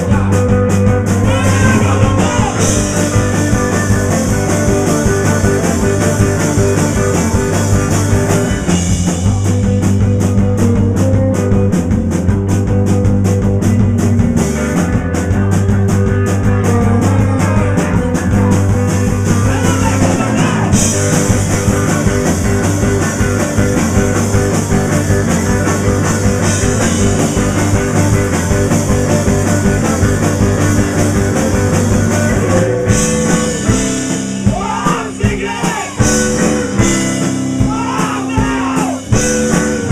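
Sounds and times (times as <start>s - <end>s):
drum kit with cymbals: 0.0s - 39.9s
electric guitar: 0.0s - 39.9s.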